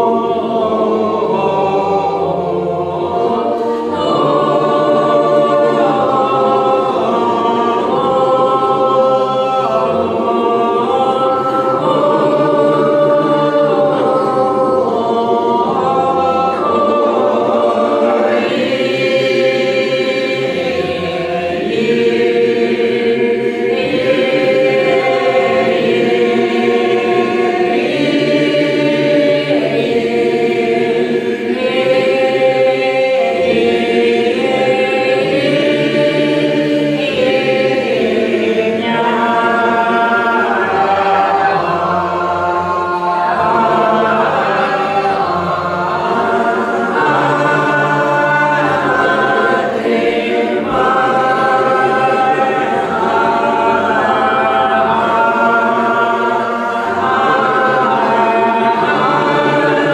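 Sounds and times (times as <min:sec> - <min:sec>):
group singing a cappella: 0:00.0 - 0:59.9.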